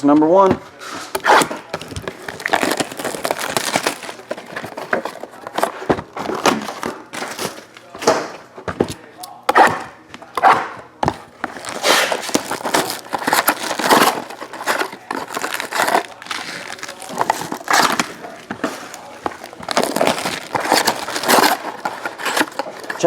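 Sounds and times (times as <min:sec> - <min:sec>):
cards shuffling and rustling: 0:00.5 - 0:23.0
wrappers crinkling and tearing: 0:00.7 - 0:23.0.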